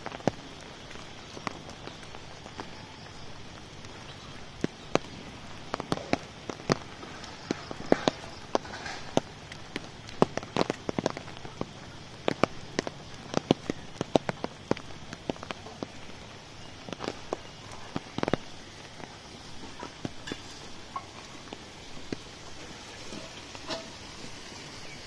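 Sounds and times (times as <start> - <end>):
raindrops tapping on umbrella: 0.0 - 25.0
steady hiss of rain: 0.0 - 25.0.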